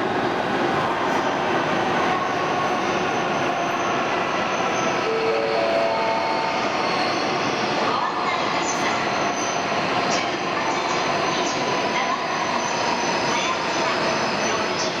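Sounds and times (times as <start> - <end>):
train rumbling along platform: 0.0 - 15.0.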